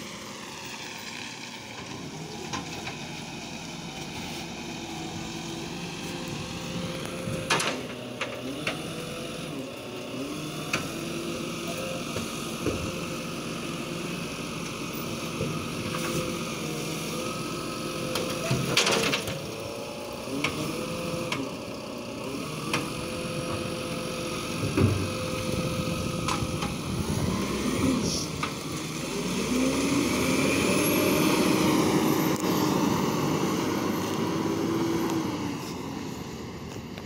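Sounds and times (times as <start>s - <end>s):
garbage truck diesel engine running: 0.0s - 37.0s.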